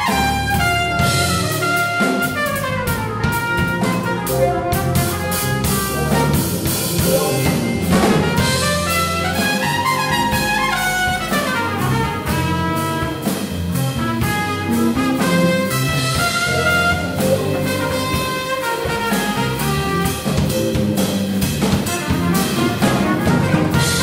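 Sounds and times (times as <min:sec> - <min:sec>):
trumpet playing phrases: 0:00.0 - 0:21.0, 0:21.6 - 0:24.0
drum kit: 0:00.0 - 0:24.0
electric bass: 0:00.0 - 0:24.0
electric piano: 0:00.0 - 0:24.0
electric guitar: 0:03.2 - 0:24.0.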